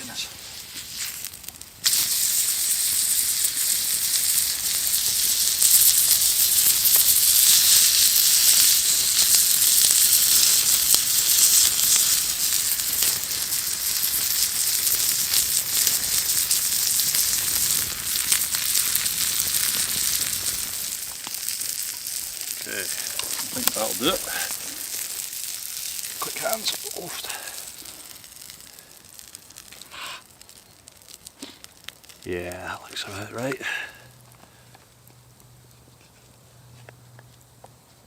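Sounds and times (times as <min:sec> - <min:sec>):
steak sizzling on hot rock: 0:00.0 - 0:37.8.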